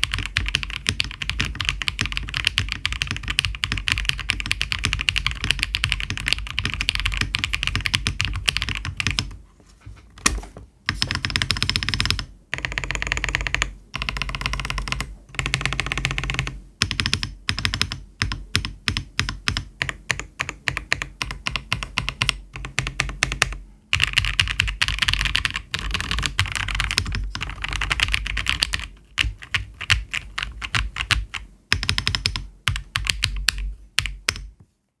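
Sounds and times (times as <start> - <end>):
mechanical keyboard typing: 0.0 - 9.4, 10.2 - 34.6.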